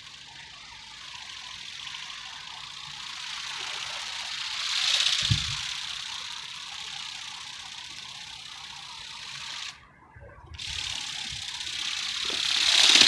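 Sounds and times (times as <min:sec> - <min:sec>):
toy wing mechanism whirring: 0:00.0 - 0:09.9, 0:10.5 - 0:13.0.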